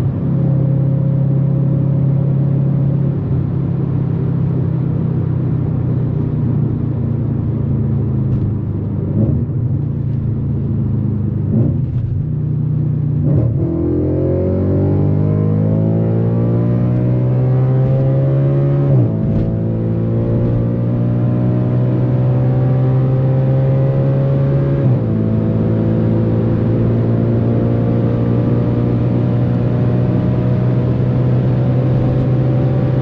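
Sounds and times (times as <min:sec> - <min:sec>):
car engine running hard: 0:00.0 - 0:33.0.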